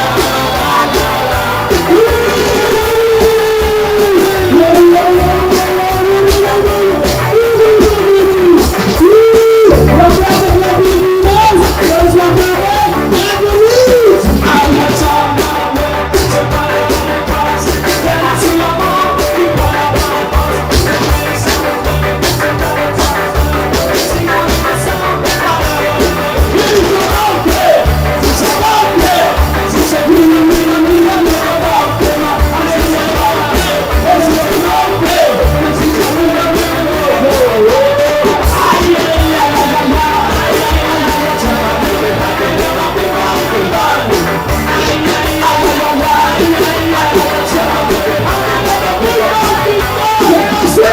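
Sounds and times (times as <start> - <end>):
bass guitar: 0.0 - 50.9
drums: 0.0 - 50.9
lead singer: 0.0 - 50.9
ska band playing live: 0.0 - 50.9.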